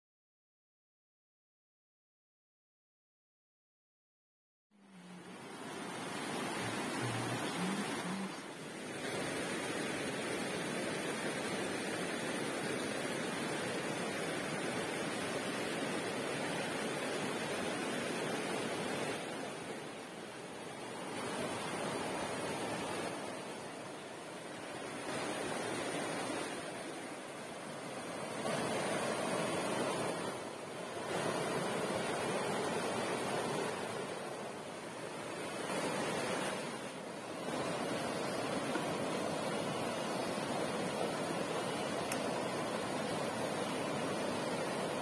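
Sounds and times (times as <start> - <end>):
river rushing over rocks: 4.8 - 45.0.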